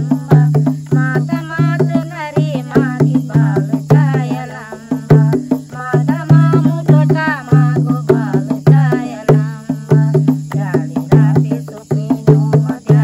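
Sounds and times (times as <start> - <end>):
barrel drum beating: 0.0 - 13.0
women singing devotional song: 0.0 - 13.0.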